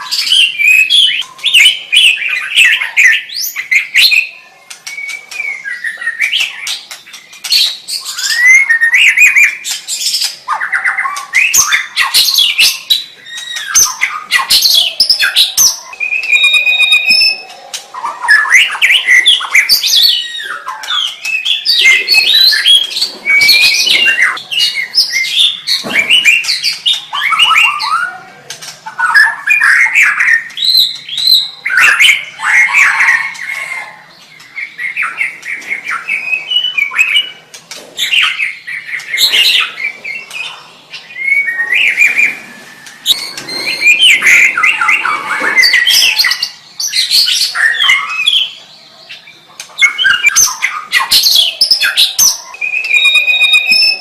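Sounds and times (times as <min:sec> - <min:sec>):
songbird singing whistled trills: 0:00.0 - 0:37.4, 0:38.0 - 0:54.0.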